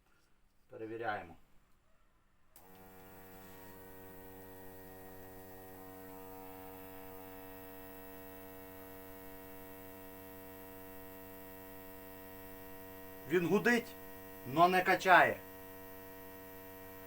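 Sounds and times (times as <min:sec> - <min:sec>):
electric fuel pump humming: 0:02.6 - 0:17.0.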